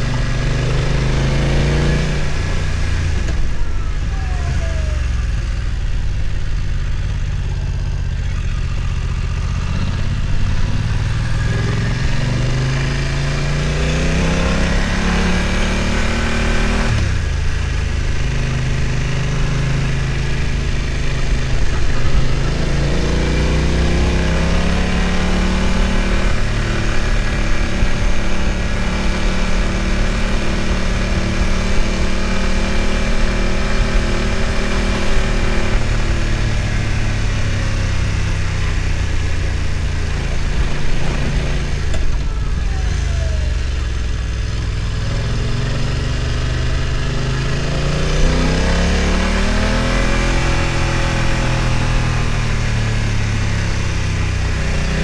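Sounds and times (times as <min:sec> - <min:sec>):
motorcycle engine pulling uphill: 0:00.0 - 0:55.0.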